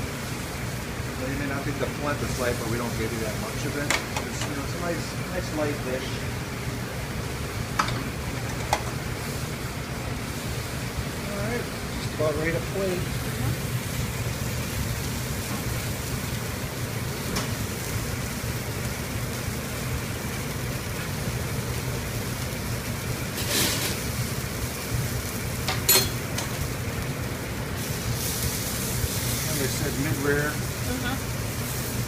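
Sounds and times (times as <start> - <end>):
meat sizzling in a pan: 0.0 - 32.0.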